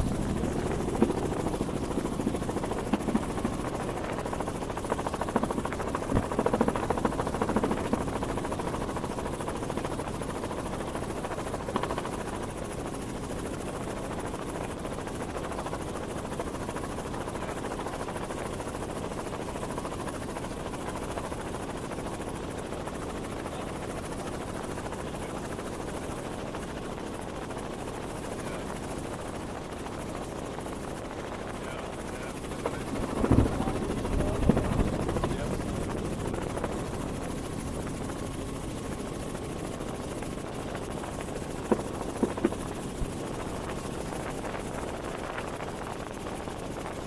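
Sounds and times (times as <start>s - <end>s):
helicopter rotor and engine drone: 0.0s - 47.0s.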